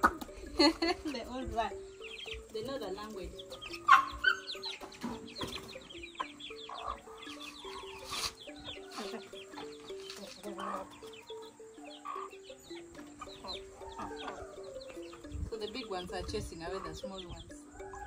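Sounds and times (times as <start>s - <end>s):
chicks peeping: 0.0s - 18.0s
hens clucking: 0.0s - 18.0s
simple repeating melody: 0.0s - 18.0s.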